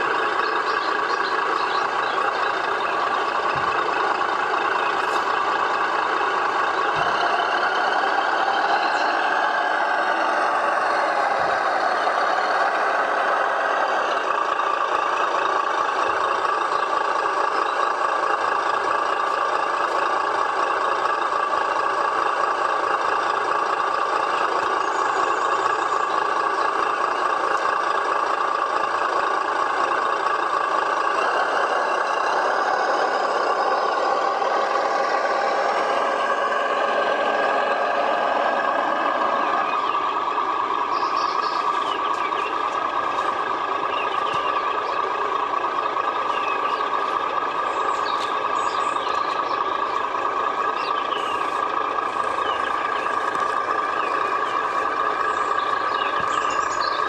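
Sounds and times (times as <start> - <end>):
toy truck motor humming: 0.0 - 57.0.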